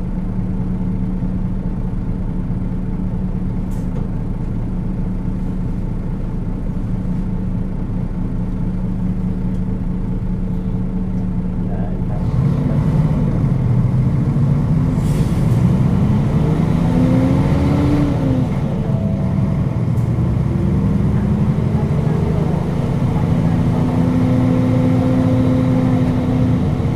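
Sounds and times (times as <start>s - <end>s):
bus diesel engine idling and accelerating: 0.0s - 26.9s.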